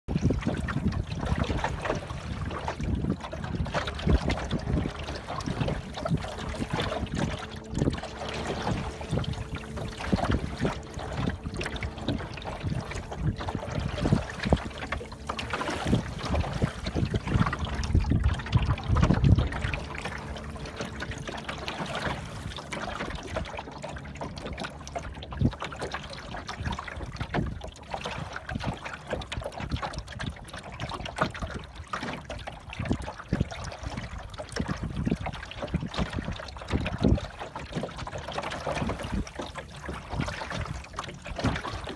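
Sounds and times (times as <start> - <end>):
water lapping against boat hull: 0.0 - 41.9.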